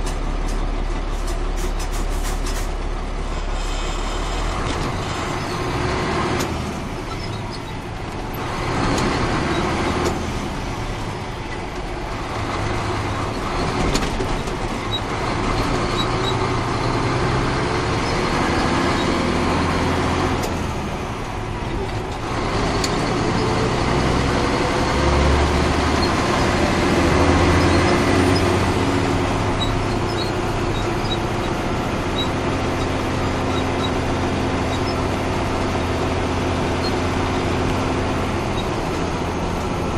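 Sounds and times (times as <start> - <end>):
road noise: 0.0 - 39.9
truck diesel engine pulling: 0.0 - 39.9.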